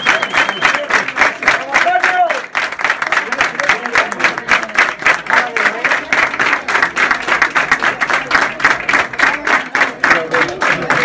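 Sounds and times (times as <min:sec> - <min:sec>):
crowd clapping in unison: 0:00.0 - 0:11.0.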